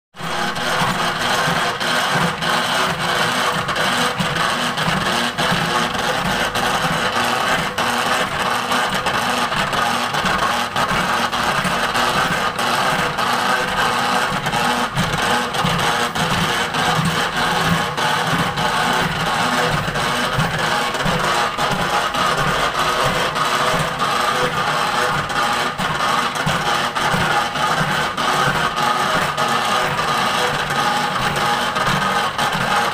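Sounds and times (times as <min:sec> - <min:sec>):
machine whirring: 0:00.2 - 0:32.9.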